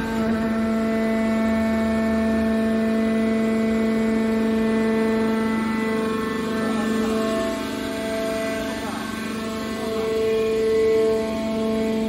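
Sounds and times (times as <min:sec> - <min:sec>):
hydraulic pump whining hum: 0:00.0 - 0:12.0.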